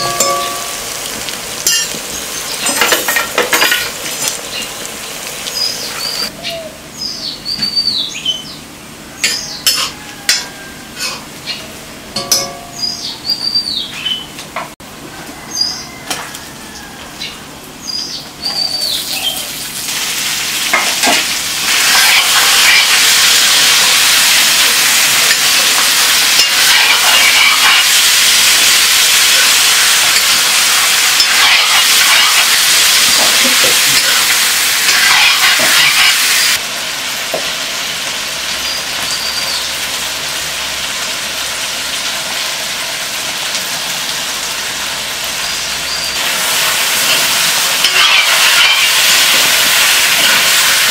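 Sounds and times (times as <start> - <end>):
chicken sizzling in a wok: 0.0 - 6.4, 8.8 - 13.2, 15.3 - 17.7, 18.3 - 50.9.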